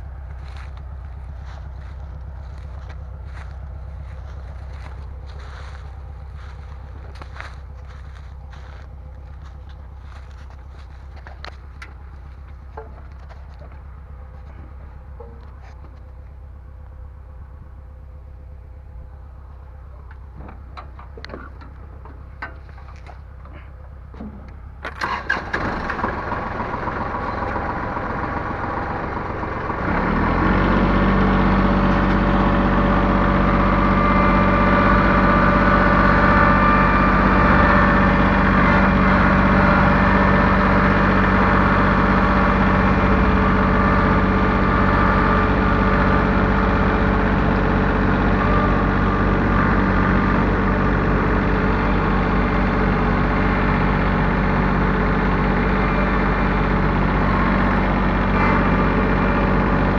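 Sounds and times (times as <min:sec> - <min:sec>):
engine starting and running: 0:00.0 - 0:17.6, 0:18.2 - 0:59.9.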